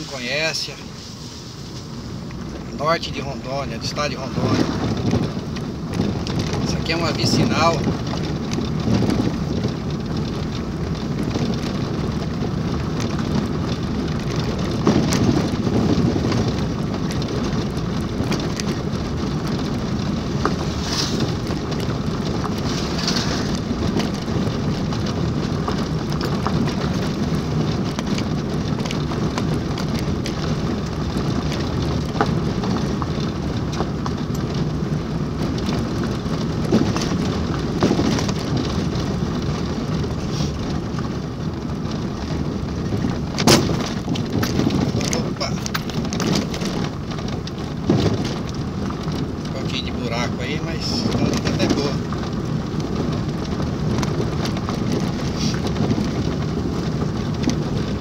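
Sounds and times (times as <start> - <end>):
tyres and engine rumble: 0.0 - 58.0
knocks and rattles from bumps: 2.7 - 58.0.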